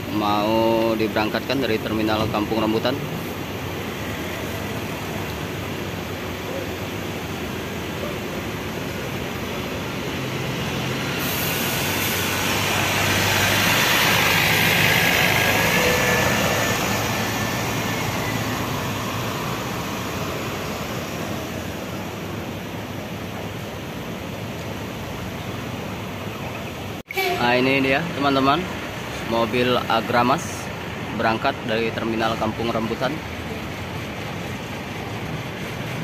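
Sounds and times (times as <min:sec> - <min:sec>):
bus diesel engine: 0:00.0 - 0:36.0.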